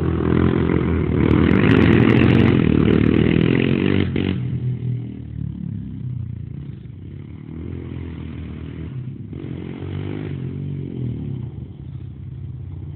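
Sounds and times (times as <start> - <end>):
quad engines revving: 0.0 - 12.9.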